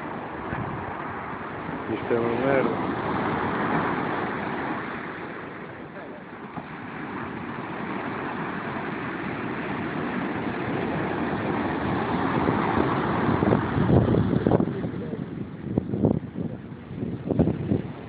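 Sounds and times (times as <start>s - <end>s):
surf breaking on beach: 0.0s - 18.0s.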